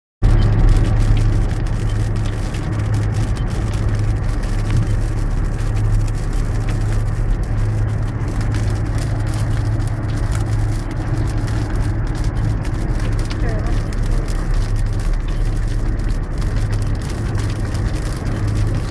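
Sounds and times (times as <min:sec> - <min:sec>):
car engine hum: 0:00.2 - 0:18.9
road noise: 0:00.2 - 0:18.9.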